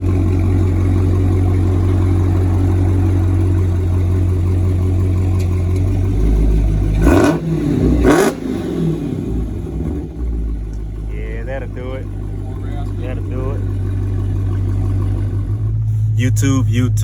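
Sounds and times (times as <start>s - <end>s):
car engine idling: 0.0s - 17.0s
engine revving: 0.0s - 17.0s.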